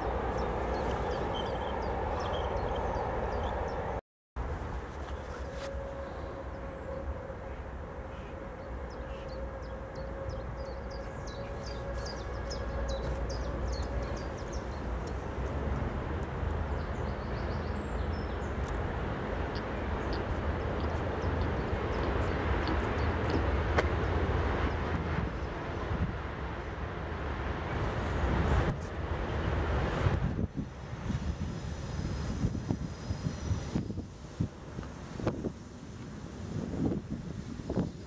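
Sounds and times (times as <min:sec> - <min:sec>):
freight train rumble: 0:00.0 - 0:38.0.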